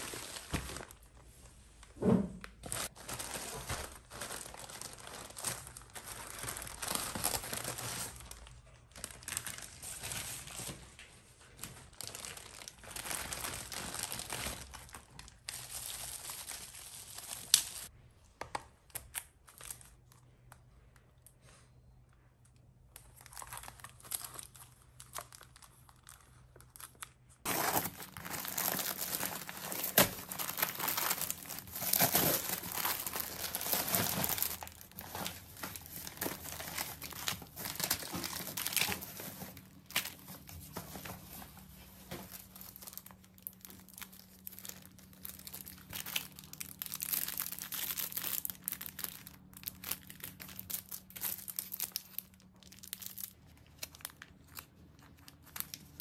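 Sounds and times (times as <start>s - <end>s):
packaging crinkling and rustling: 0.0s - 17.9s, 22.9s - 56.0s.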